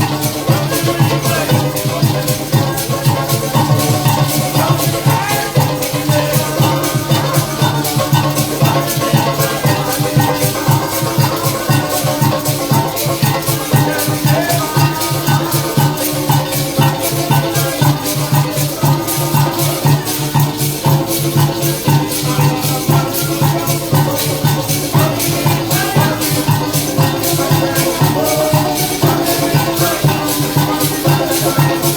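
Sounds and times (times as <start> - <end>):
live folk band music: 0.0 - 31.9
maracas shaking: 0.0 - 31.9.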